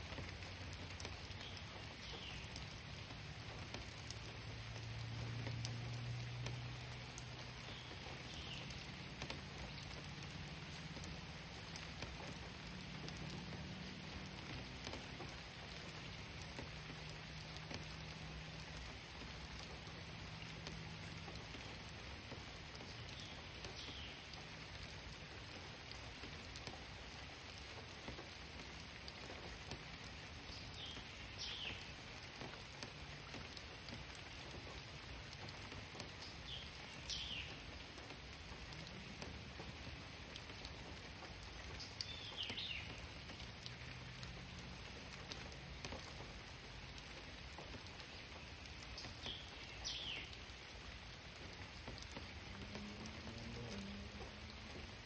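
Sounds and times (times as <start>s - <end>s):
rain on foliage: 0.0s - 55.0s.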